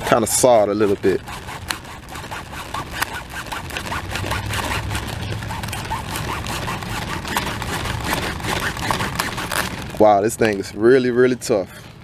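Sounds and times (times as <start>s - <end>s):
knife sawing through cabbage stem: 0.0s - 10.3s.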